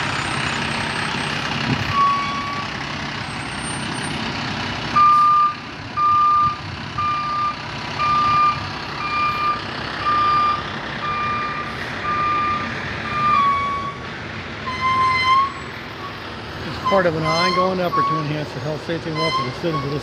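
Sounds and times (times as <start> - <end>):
truck reversing alarm beeping: 0.0 - 4.2, 4.9 - 14.0, 14.6 - 20.0
truck engine running: 0.0 - 20.0.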